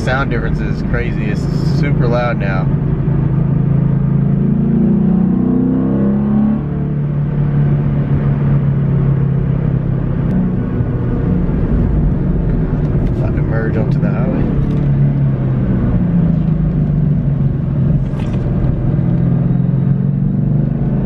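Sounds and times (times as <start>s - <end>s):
loud car engine accelerating: 0.0s - 21.0s.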